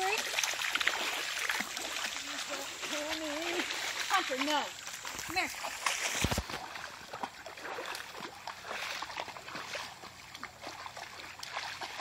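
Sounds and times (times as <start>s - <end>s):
dog splashing through water: 0.0s - 12.0s
stream rushing: 0.0s - 12.0s.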